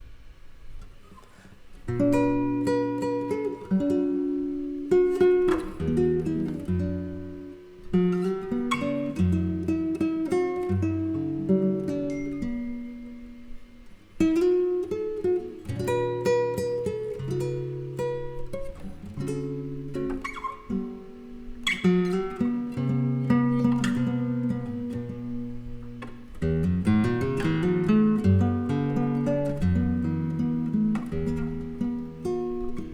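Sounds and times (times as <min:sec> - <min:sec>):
nylon-string guitar playing: 0:00.7 - 0:32.9
electric guitar playing: 0:01.9 - 0:32.9.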